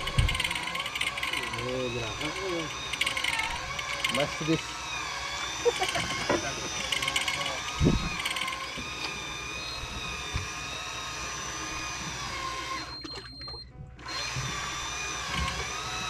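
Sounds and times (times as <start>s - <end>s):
fishing reel motor whining: 0.0s - 16.0s.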